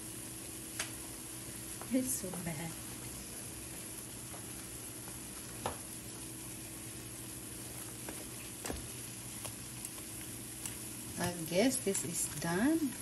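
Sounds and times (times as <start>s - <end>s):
plantain sizzling in oil: 0.0s - 13.0s.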